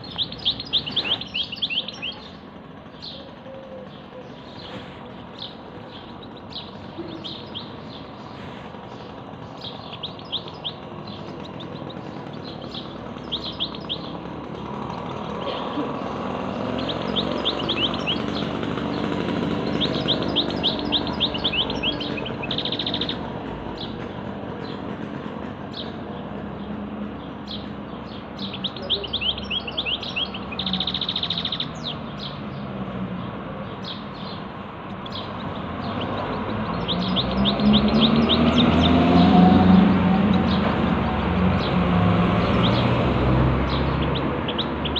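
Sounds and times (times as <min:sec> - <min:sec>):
songbird chirping: 0:00.0 - 0:24.0, 0:25.8 - 0:44.9.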